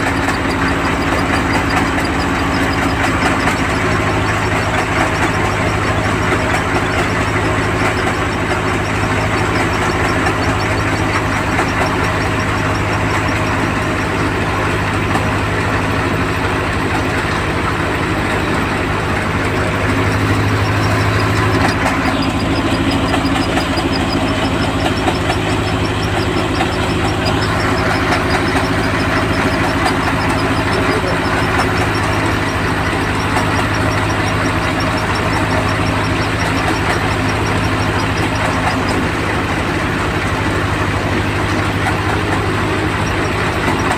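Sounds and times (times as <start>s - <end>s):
fast mechanical ticking: 0.0s - 43.9s
harvesting machinery running: 0.0s - 43.9s.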